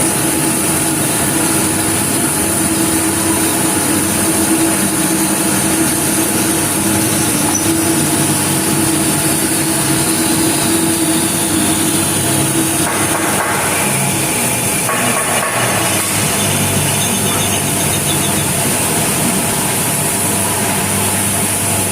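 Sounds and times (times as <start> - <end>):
lathe spindle hum and whine: 0.0 - 21.9
metal cutting noise: 0.0 - 21.9.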